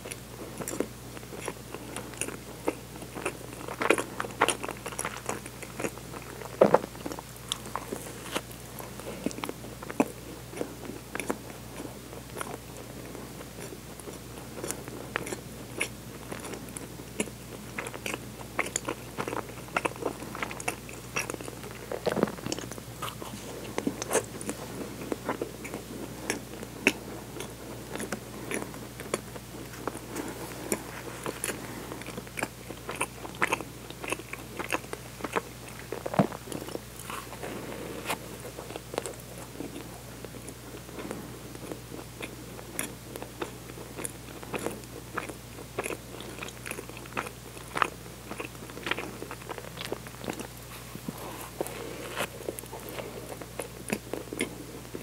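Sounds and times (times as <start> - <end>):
biting and chewing bread: 0.0 - 55.0.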